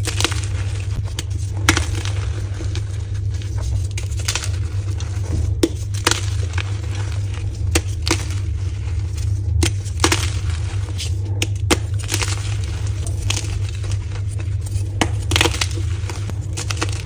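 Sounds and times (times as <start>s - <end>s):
chalk crunching and cracking: 0.0s - 17.0s
steady low hum: 0.0s - 17.0s.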